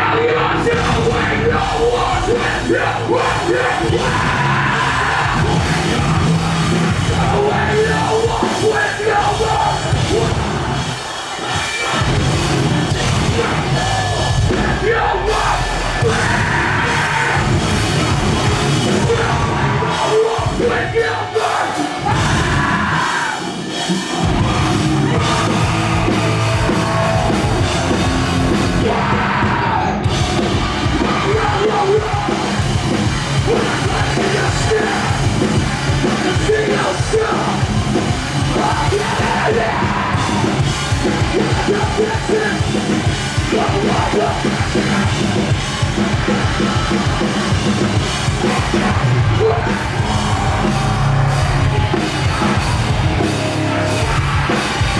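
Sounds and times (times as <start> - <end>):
screamed vocals: 0.0 - 37.7, 38.4 - 42.6, 48.4 - 54.9
metalcore band playing: 0.0 - 54.9.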